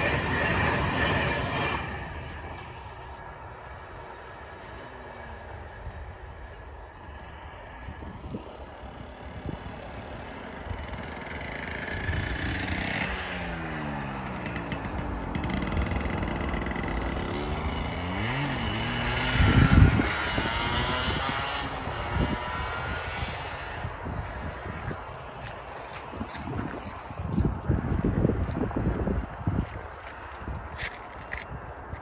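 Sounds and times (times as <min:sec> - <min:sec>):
vehicles driving past: 0:00.0 - 0:32.0.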